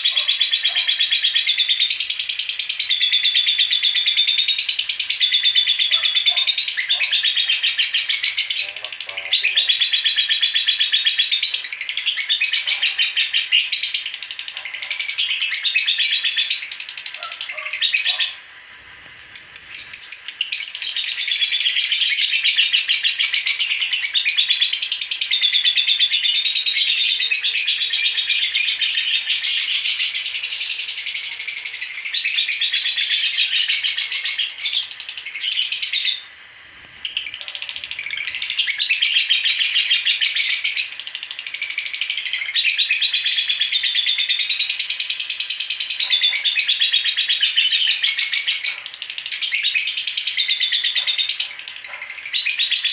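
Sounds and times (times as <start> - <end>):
lovebird chattering trill: 0.0 - 18.4, 19.2 - 36.2, 37.0 - 52.9.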